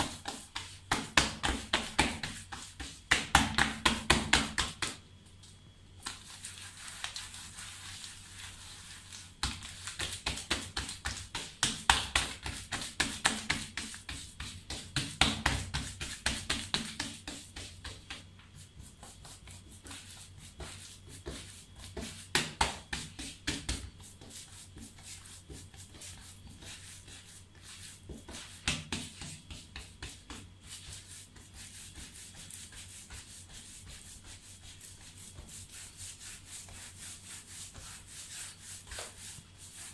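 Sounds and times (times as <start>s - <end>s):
hands slapping and rubbing dough: 0.0s - 39.9s.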